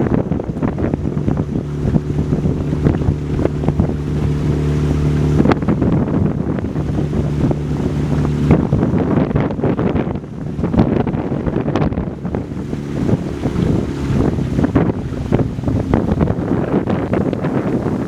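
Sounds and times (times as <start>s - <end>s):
motorboat engine running: 0.0s - 18.0s
water rushing past hull: 0.0s - 18.0s
wind buffeting microphone: 0.0s - 18.0s.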